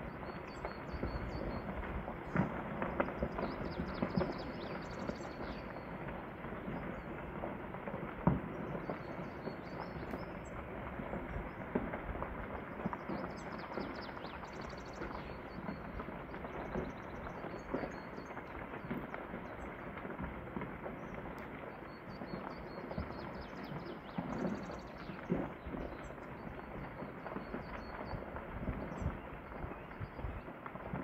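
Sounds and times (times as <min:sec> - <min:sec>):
continuous rockfall rumble: 0:00.0 - 0:31.0.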